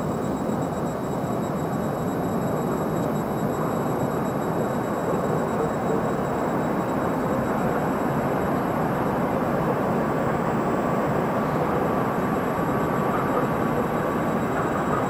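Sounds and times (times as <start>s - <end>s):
faint whine: 0.0s - 15.0s.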